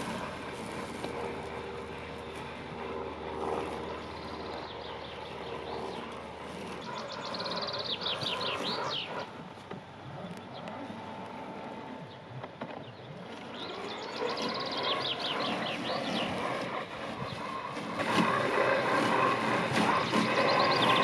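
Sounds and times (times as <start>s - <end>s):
birds chirping: 0.0s - 21.0s
robotic lawn mower motor: 0.0s - 21.0s.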